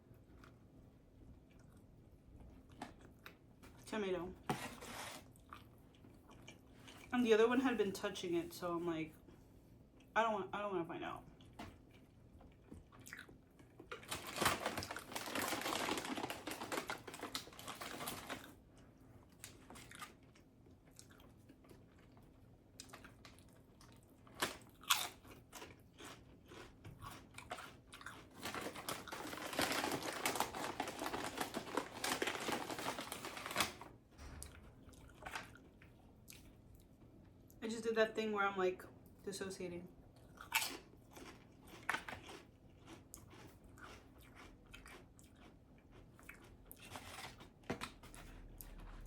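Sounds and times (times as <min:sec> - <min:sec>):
chewing and crunching toast: 0:00.0 - 0:07.1, 0:11.2 - 0:37.6, 0:40.1 - 0:49.0.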